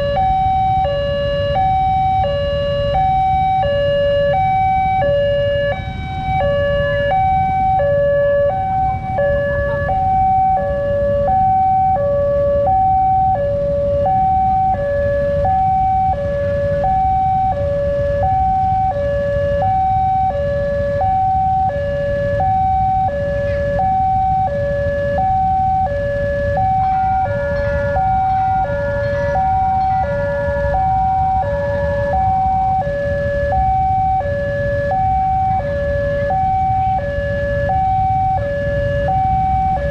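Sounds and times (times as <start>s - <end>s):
level crossing two-tone alarm: 0.0s - 39.9s
road traffic rumble: 0.0s - 39.9s.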